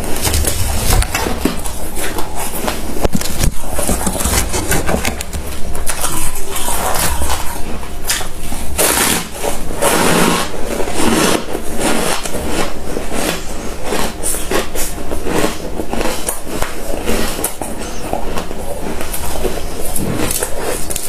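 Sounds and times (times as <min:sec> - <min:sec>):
chewing crunchy frost: 0:00.0 - 0:21.0.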